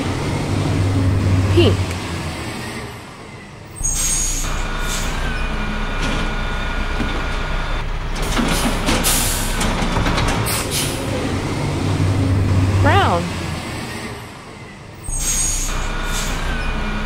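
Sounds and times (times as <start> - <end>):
diesel engine running: 0.0 - 10.2, 10.8 - 15.0.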